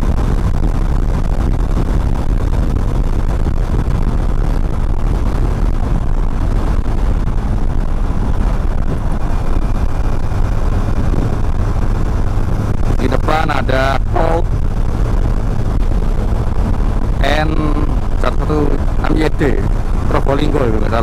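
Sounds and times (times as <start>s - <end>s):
motorcycle engine: 0.0s - 21.0s
road noise: 0.0s - 21.0s
wind rushing on microphone: 0.0s - 21.0s.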